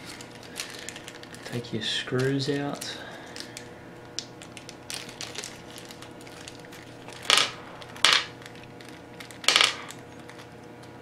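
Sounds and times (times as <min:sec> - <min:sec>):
screws ticking and rustling in bag: 0:00.0 - 0:03.7, 0:04.4 - 0:10.5
plastic bag crinkling: 0:00.0 - 0:10.9.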